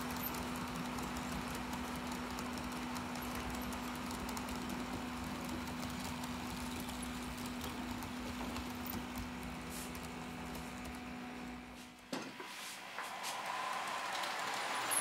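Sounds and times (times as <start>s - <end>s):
model train motor hum: 0.0s - 11.8s, 13.2s - 15.0s
wheels clicking over track joints: 0.0s - 11.8s, 13.3s - 15.0s.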